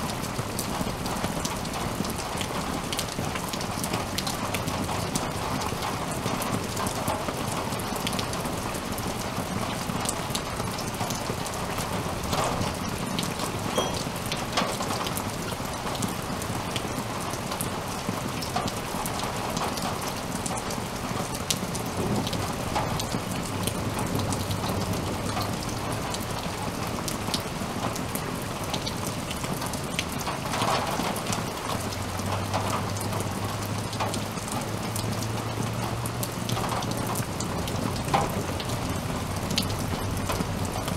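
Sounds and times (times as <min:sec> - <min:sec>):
raindrops ticking nearby: 0:00.0 - 0:40.9
steady rain falling: 0:00.0 - 0:40.9.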